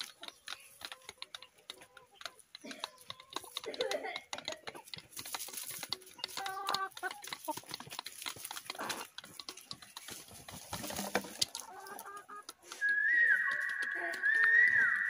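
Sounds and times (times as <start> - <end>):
birds pecking and scratching: 0.0 - 15.0
hens clucking: 0.0 - 15.0.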